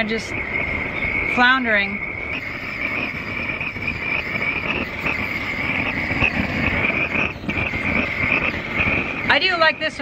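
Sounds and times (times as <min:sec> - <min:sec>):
blowlamps hissing: 0:00.0 - 0:10.0.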